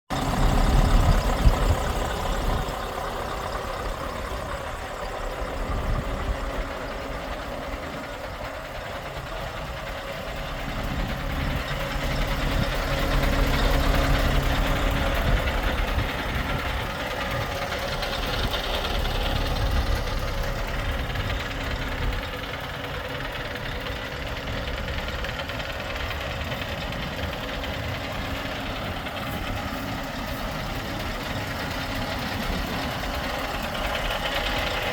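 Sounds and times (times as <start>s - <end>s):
truck diesel engine idling: 0.1s - 34.9s.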